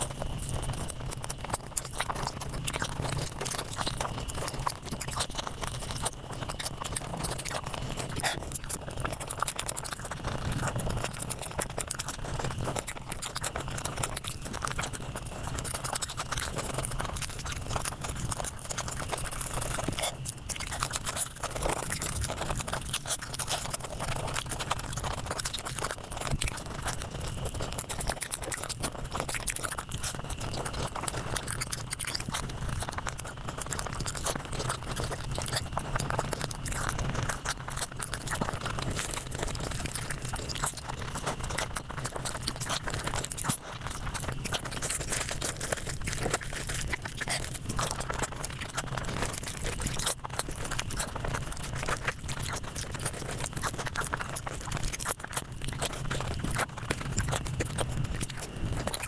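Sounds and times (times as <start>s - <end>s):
sped-up chewing and crunching: 0.0s - 59.0s.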